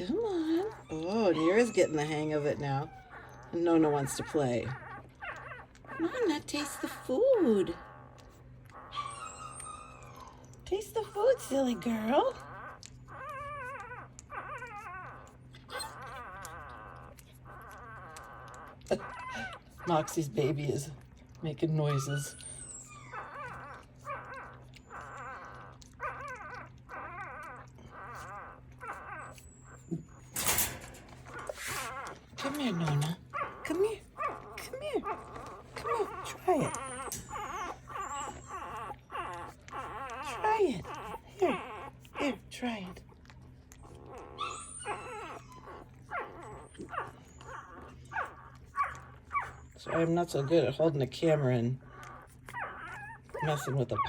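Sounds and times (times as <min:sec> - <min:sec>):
puppy whining and crying: 0:00.0 - 0:54.0.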